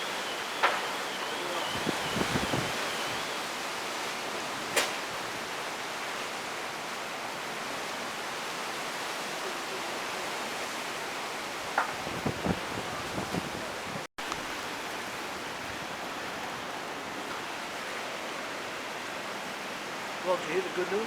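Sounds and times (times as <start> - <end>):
hurricane wind: 0.0 - 21.0
rain: 0.0 - 21.0
surf: 0.0 - 21.0.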